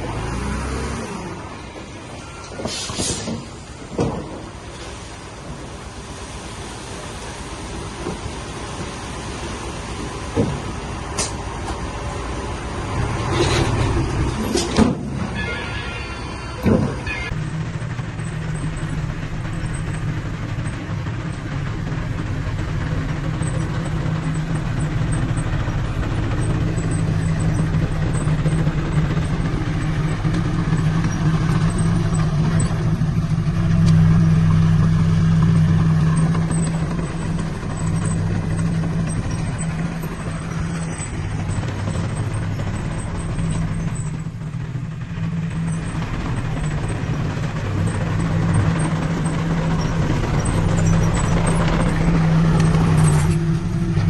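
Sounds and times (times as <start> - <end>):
diesel engine of earthmoving machine: 0.0 - 54.0.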